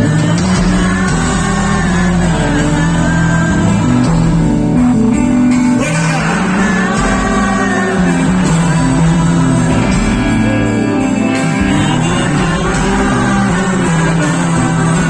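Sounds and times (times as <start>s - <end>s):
person singing: 0.0s - 15.0s
rock song with guitar and bass: 0.0s - 15.0s.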